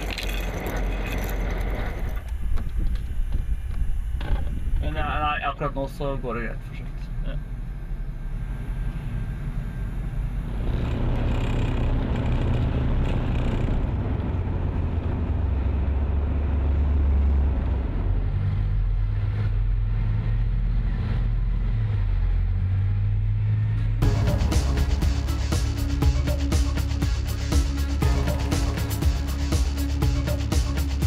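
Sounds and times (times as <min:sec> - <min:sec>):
tracked vehicle engine rumbling: 0:00.0 - 0:31.0.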